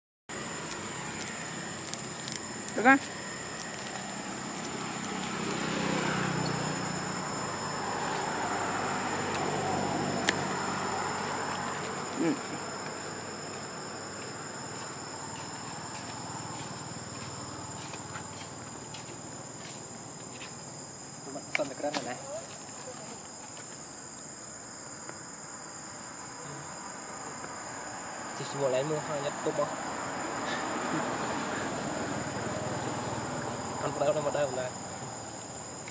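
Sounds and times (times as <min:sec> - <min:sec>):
high-pitched insect chorus: 0:00.3 - 0:35.9.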